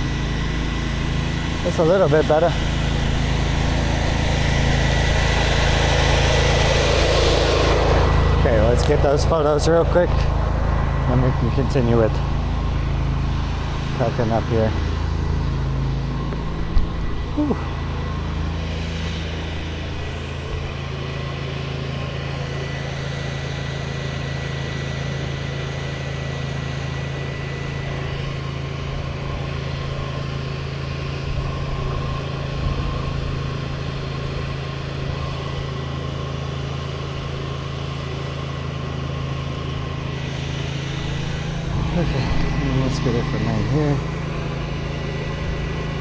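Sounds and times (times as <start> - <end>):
engine droning: 0.0 - 46.0
faint high whine: 0.0 - 46.0.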